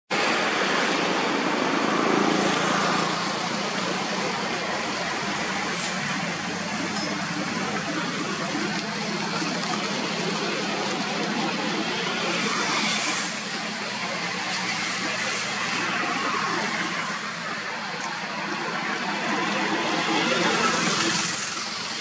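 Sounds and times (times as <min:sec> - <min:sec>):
distant road traffic: 0:00.1 - 0:22.0.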